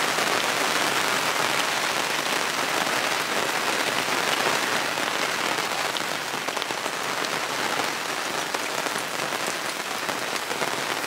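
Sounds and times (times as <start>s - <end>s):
heavy rain on awning: 0.0s - 11.0s.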